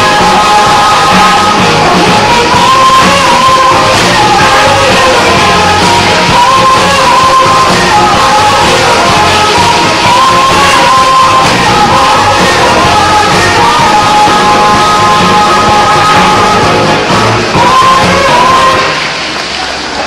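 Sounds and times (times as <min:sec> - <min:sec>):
loud band music with singing: 0:00.0 - 0:20.0.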